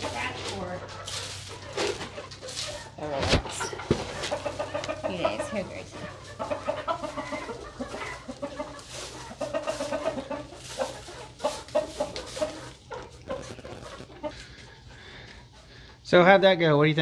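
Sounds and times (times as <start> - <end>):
rustling and scratching in straw: 0.0 - 14.5
hens clucking: 0.0 - 17.0.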